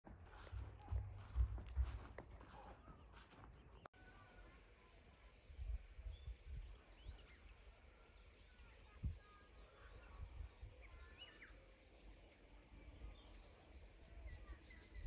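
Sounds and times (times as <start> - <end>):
birds chirping: 0.3 - 15.0.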